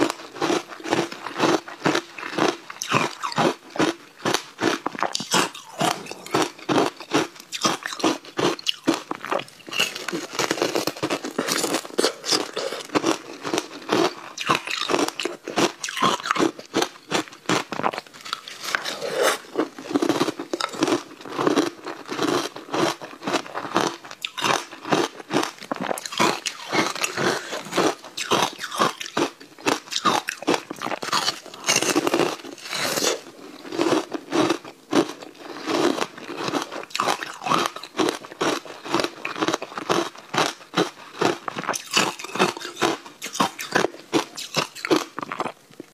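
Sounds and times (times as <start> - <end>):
ice crunching while chewed: 0.0 - 45.9.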